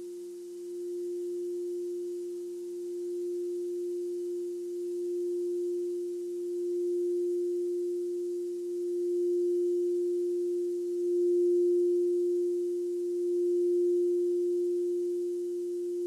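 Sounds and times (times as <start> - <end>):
crystal singing bowl ringing: 0.0 - 16.0.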